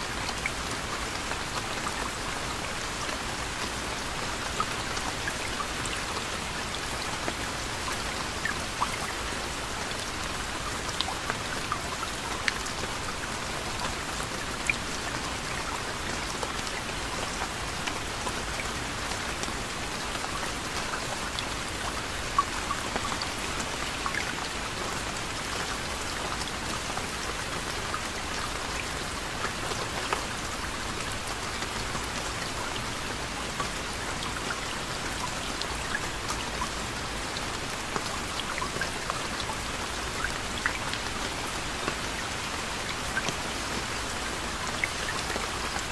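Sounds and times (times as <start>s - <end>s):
gentle rain falling: 0.0s - 45.9s
raindrops ticking on a surface: 0.0s - 45.9s.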